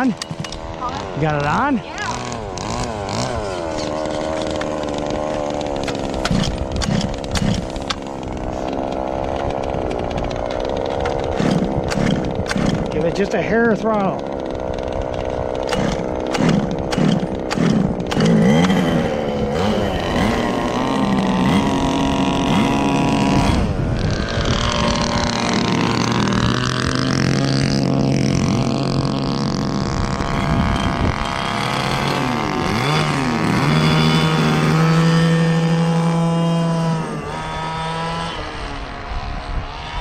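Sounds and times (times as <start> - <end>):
small two-stroke engine revving: 0.0 - 40.0.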